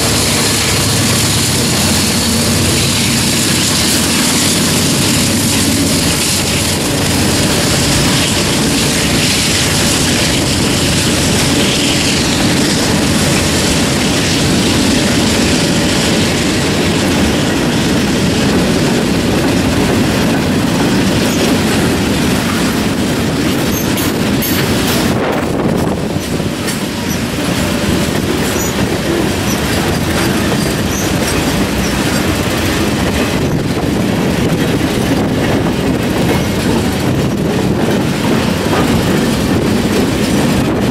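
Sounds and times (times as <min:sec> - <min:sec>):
freight train clattering past: 0:00.0 - 0:40.9.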